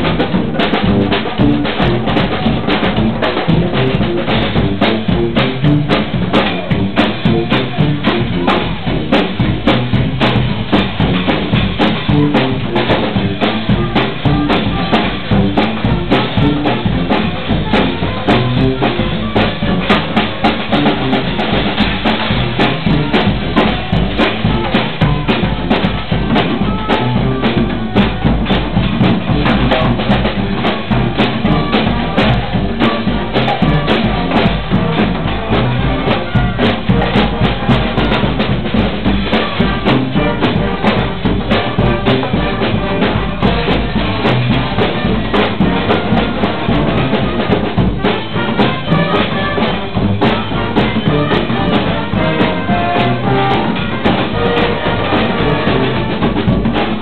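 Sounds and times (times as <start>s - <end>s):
bass drum: 0.0s - 57.0s
brass band playing: 0.0s - 57.0s
snare drum: 0.0s - 57.0s.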